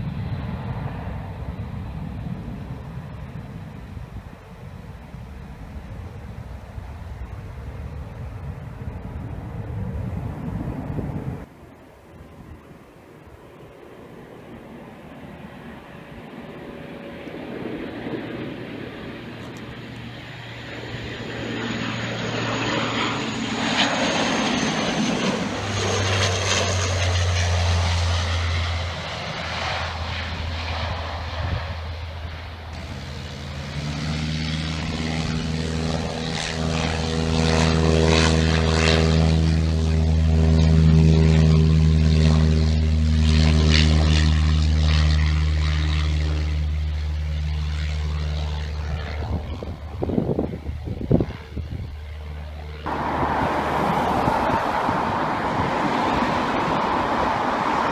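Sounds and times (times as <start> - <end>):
propeller plane engine hum: 0.0 - 57.9
turboprop turbine whine: 0.0 - 57.9.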